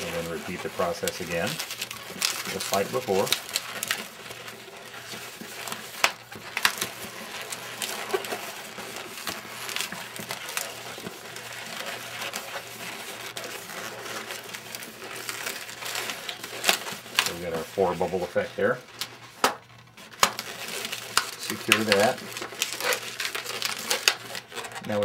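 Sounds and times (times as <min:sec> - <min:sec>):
balloon squeaking and rubbing: 0:00.0 - 0:25.0.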